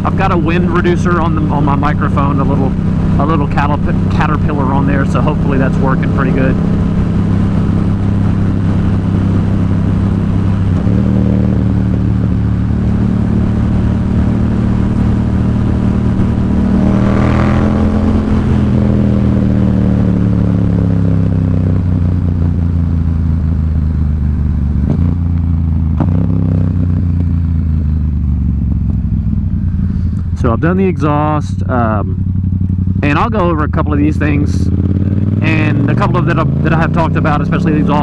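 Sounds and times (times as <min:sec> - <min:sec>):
motorcycle engine cruising: 0:00.0 - 0:38.0
rising and falling whine: 0:00.0 - 0:38.0.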